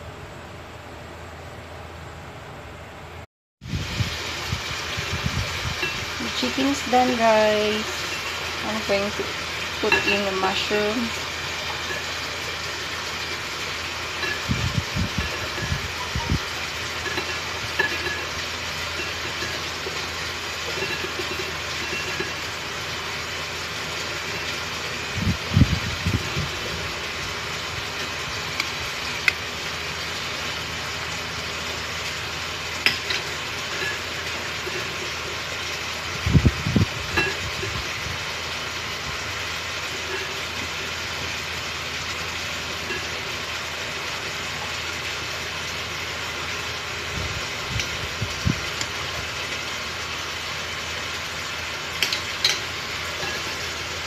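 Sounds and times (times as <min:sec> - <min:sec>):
gas stove burner hissing: 0:03.6 - 0:54.0.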